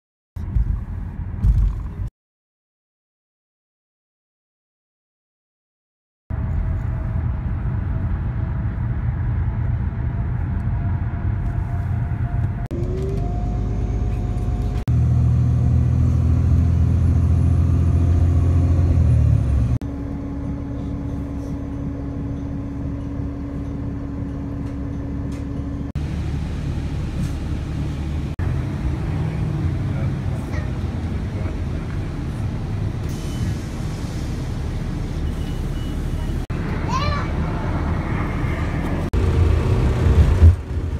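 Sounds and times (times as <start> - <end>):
car road noise: 0.4 - 2.1, 6.3 - 40.9.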